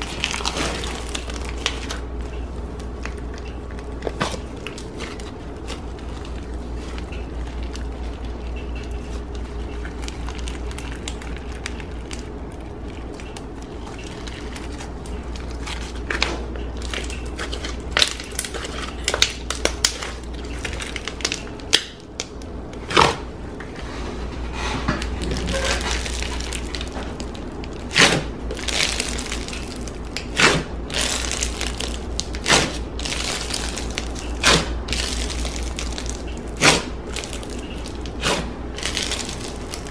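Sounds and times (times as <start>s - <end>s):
slime squishing and crackling: 0.0s - 23.6s, 25.0s - 39.9s.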